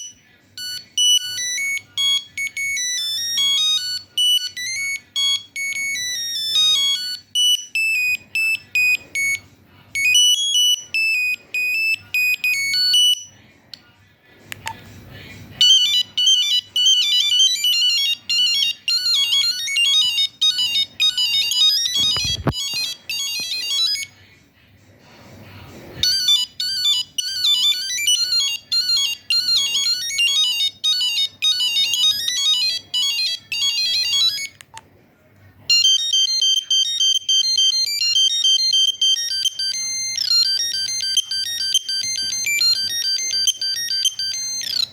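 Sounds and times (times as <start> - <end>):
monophonic phone ringtones beeping: 0.0 - 13.3, 15.6 - 24.2, 26.0 - 34.6, 35.7 - 44.9.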